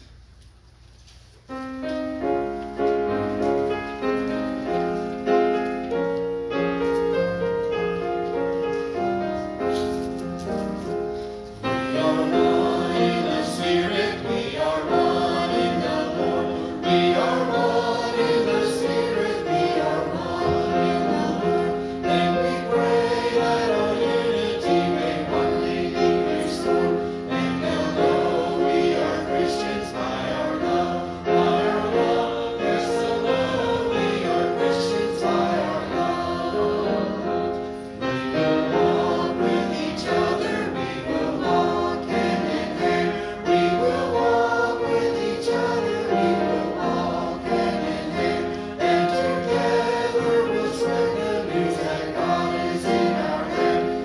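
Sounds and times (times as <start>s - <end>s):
congregation singing a hymn: 1.5s - 54.0s.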